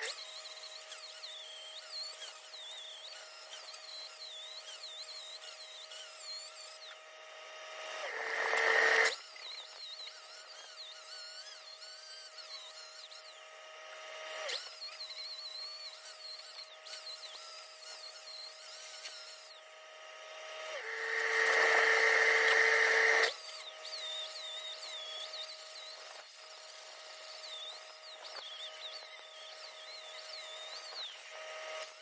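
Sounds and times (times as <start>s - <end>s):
power grinder on steel: 0.0s - 32.0s.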